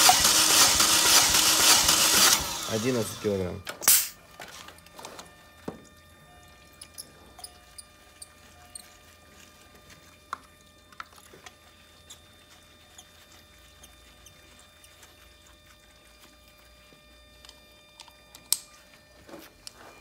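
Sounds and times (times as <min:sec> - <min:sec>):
low steady hum: 0:02.4 - 0:20.0.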